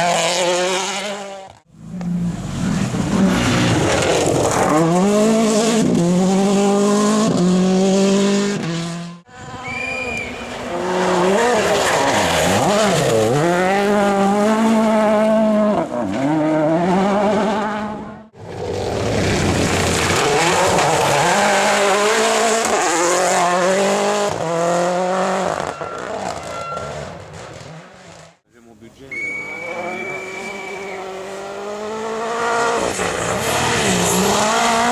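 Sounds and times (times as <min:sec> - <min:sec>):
rally car engines revving: 0:00.0 - 0:28.4, 0:29.1 - 0:34.9.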